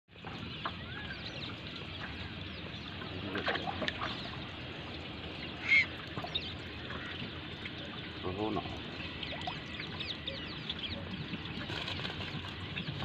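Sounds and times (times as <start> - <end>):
birds chirping: 0.1 - 13.0
lake water: 0.1 - 13.0
wind: 0.1 - 13.0.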